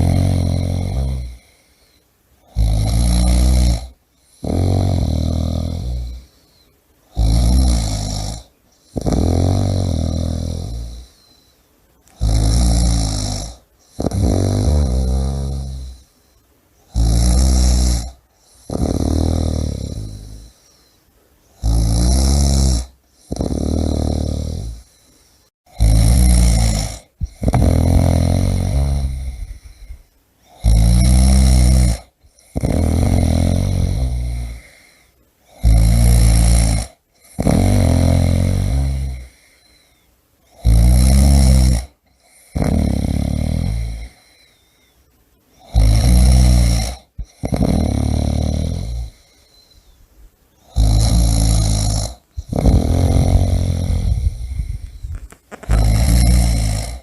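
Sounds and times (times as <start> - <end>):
person snoring: 0.0 - 11.5, 12.1 - 16.2, 16.9 - 21.0, 21.6 - 44.7, 45.6 - 50.0, 50.6 - 57.0.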